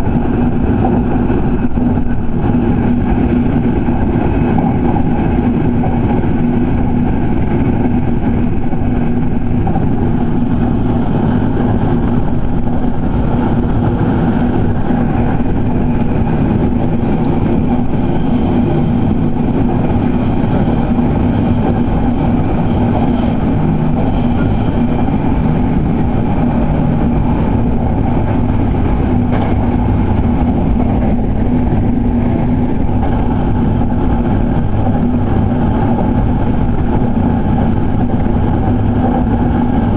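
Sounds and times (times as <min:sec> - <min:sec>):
low hum: 0:00.0 - 0:39.9
train wheels rumbling on rails: 0:00.0 - 0:39.9.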